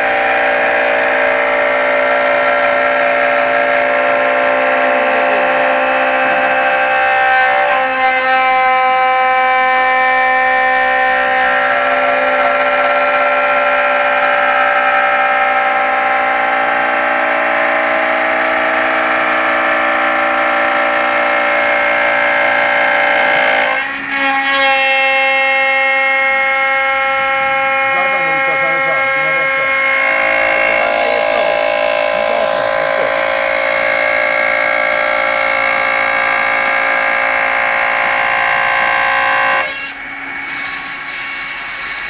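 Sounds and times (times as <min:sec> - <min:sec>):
router spindle whine: 0:00.0 - 0:42.0.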